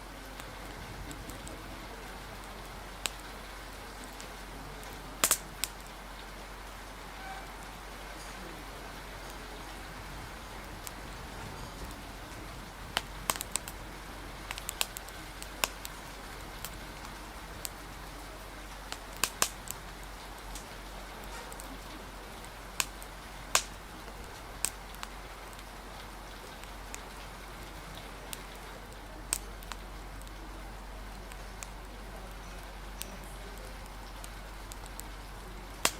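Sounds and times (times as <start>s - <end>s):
faint murmur of conversation: 0.0s - 35.9s
steady rain hiss: 0.0s - 35.9s
wood fire crackling: 0.0s - 35.9s.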